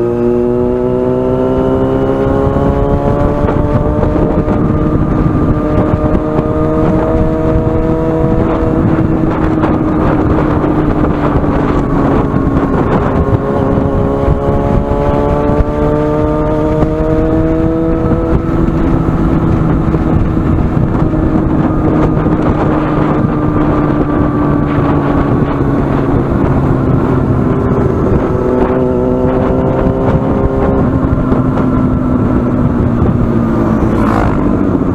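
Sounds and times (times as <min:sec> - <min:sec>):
motorcycle engine revving: 0:00.0 - 0:34.9
steady rush of wind noise: 0:00.0 - 0:34.9.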